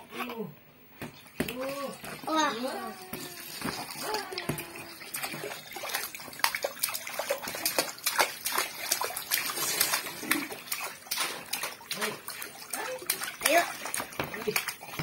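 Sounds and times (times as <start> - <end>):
water splashing in paddling pool: 1.1 - 15.0
water running from hose: 1.4 - 15.0.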